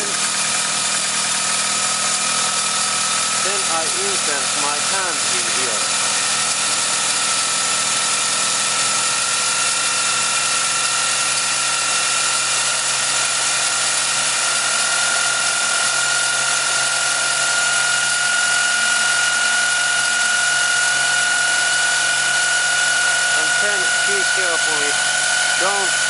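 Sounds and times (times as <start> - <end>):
high engine whine: 0.0 - 12.0, 17.0 - 26.0
car engine idling: 0.0 - 18.4, 19.3 - 26.0.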